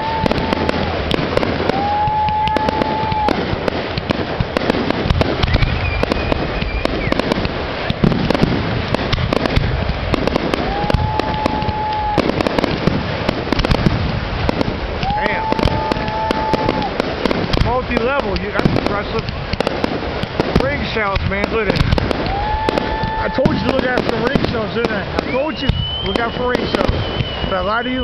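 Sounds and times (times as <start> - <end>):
firework whistling tones: 0.0 - 28.0
fireworks bangs and crackle: 0.0 - 28.0.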